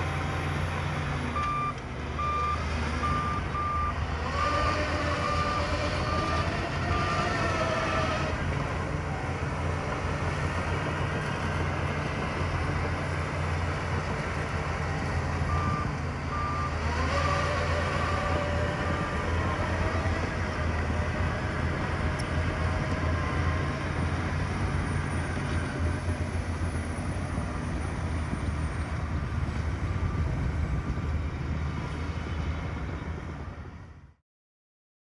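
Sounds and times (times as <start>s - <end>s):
diesel machinery rumbling: 0.0s - 34.1s.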